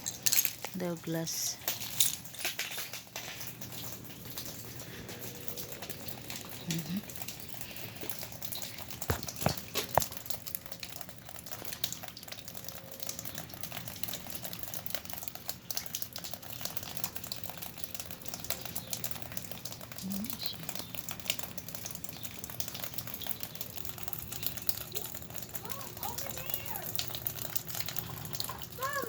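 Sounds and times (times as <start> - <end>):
freezing rain pattering on ice: 0.0 - 29.0.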